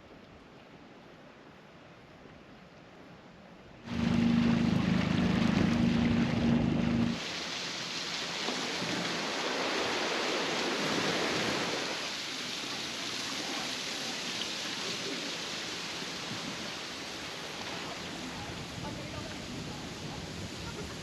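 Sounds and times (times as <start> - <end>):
running water rushing: 3.9 - 21.0.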